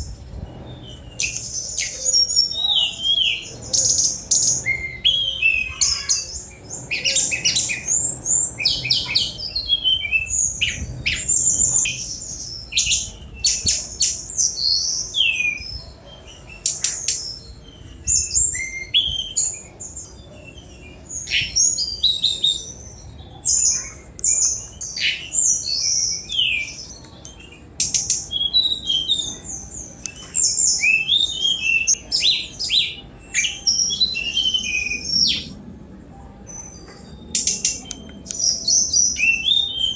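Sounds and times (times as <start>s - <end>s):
bird singing rapid chirps: 0.0s - 35.6s, 36.5s - 39.9s.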